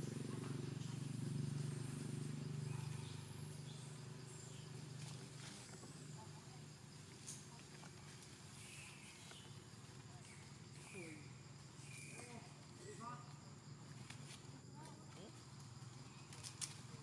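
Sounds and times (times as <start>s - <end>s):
forest ambience: 0.0s - 17.0s.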